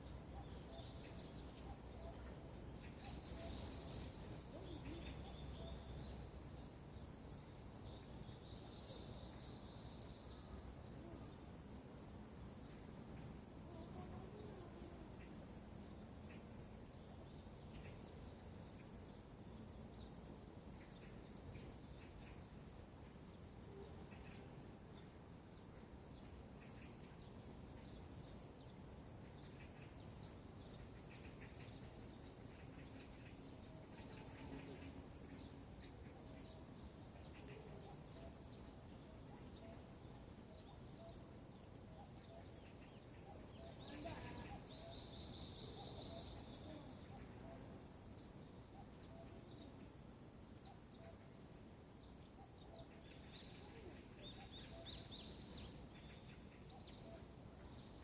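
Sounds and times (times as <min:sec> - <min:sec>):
low steady background rumble: 0:00.0 - 0:58.0
small birds chirping: 0:00.0 - 0:58.0.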